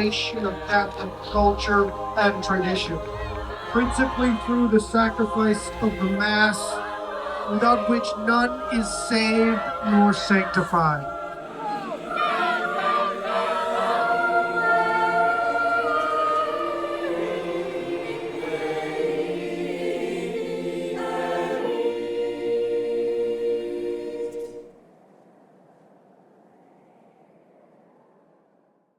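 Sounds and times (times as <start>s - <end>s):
choir singing a cappella: 0.0s - 24.8s.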